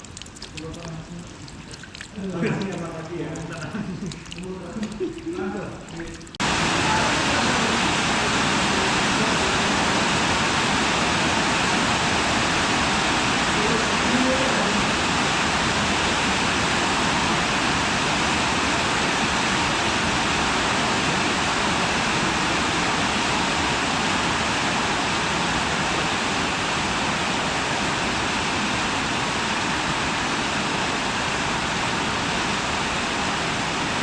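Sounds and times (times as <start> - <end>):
rain pouring: 0.0 - 34.0.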